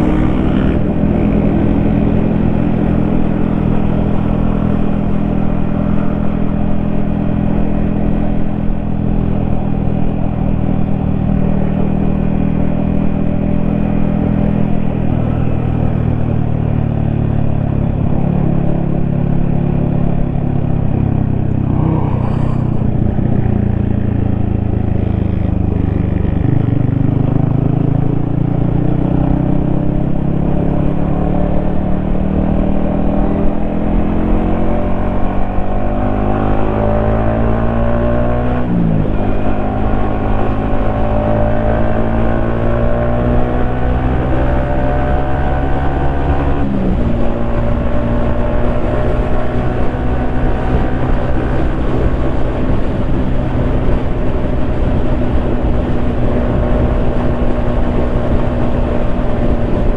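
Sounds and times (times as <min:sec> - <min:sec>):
motorcycle engine running: 0:00.0 - 0:35.9, 0:38.7 - 0:59.9.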